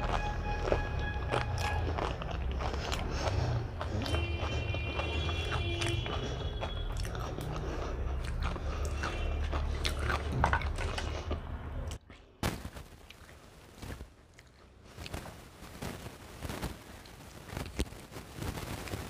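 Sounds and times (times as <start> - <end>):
chewing: 0.0 - 12.4, 13.0 - 15.4, 16.8 - 17.9
low steady hum: 0.0 - 19.0.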